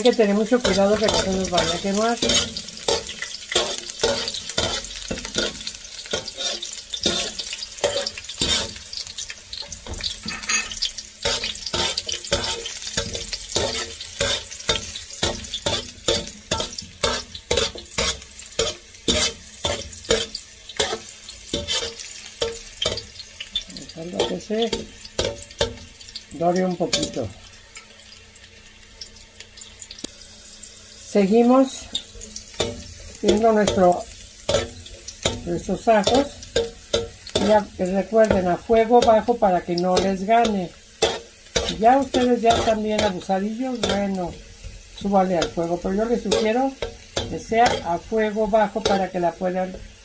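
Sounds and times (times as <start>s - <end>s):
skimmer scraping and tapping pan: 0.0s - 28.2s, 31.4s - 50.0s
garlic sizzling in oil: 0.0s - 50.0s.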